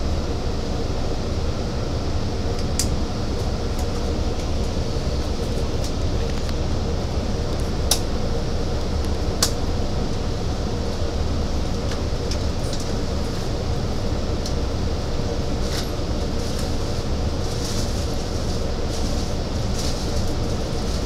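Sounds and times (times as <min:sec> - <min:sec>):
steady hum: 0:00.0 - 0:21.0
train wheels rumbling on rails: 0:01.6 - 0:21.0.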